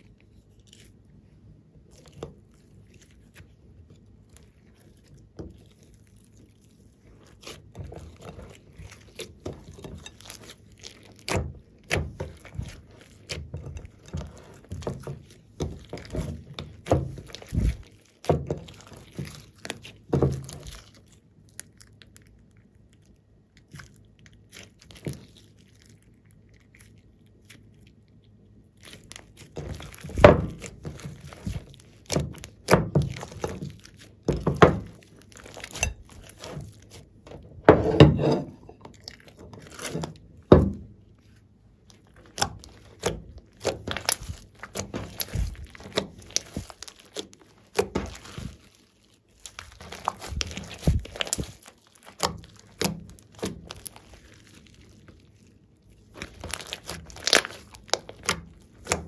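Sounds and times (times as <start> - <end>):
slime squelching: 0.0 - 59.0.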